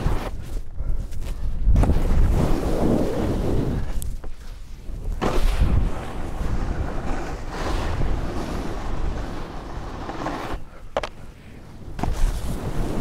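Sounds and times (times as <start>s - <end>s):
snowboard landing: 0.0s - 0.6s, 1.6s - 11.2s, 11.8s - 13.0s
snowboard edges scraping snow: 0.0s - 13.0s.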